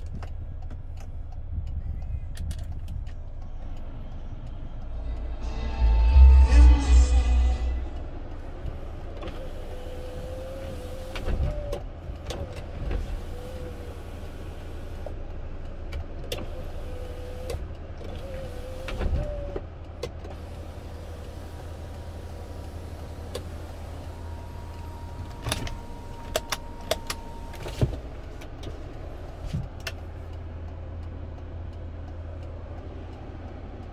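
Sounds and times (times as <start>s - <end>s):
idling car hum: 0.0s - 33.9s.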